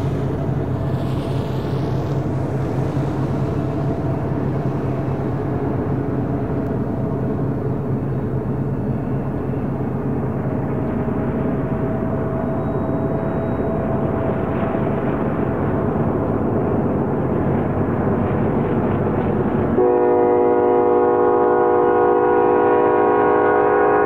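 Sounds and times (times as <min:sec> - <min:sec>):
freight train drone: 0:00.0 - 0:24.0.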